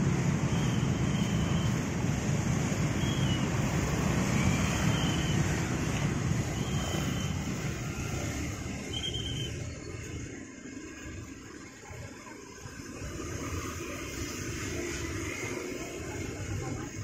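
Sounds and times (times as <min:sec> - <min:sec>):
motorcycles and cars passing: 0:00.0 - 0:17.0.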